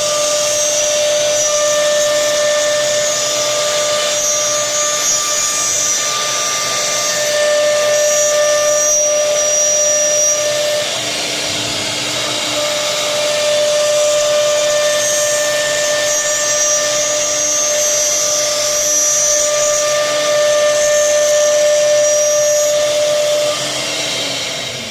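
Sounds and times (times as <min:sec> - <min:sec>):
spindle high whine: 0:00.0 - 0:24.9.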